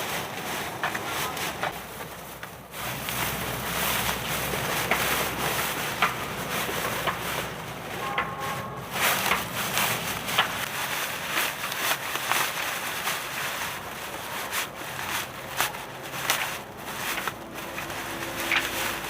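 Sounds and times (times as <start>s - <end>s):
steady outdoor hiss: 0.0s - 19.0s
sharp crackles and taps: 0.8s - 19.0s.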